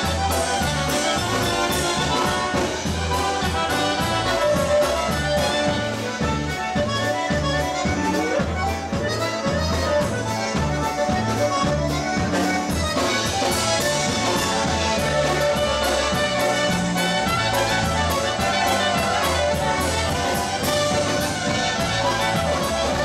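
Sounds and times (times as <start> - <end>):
concertina: 0.0 - 23.0
polka band playing: 0.0 - 23.0.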